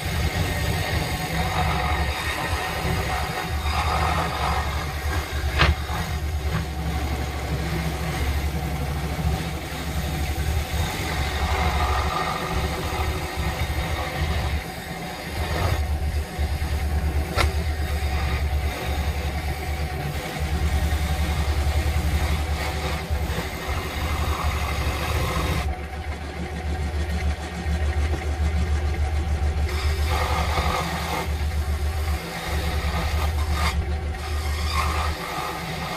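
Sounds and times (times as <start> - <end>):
saw blade cutting wood: 0.0 - 25.8, 28.1 - 35.9
scroll saw hum: 0.0 - 35.9.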